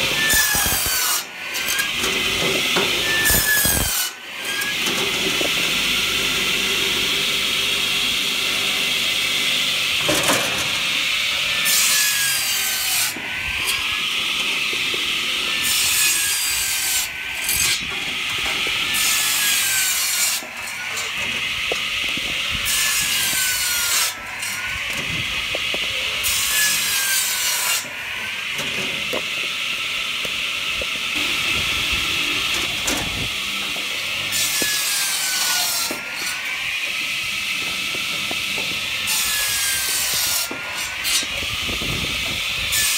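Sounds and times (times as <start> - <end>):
circular saw cutting logs: 0.0 - 42.9.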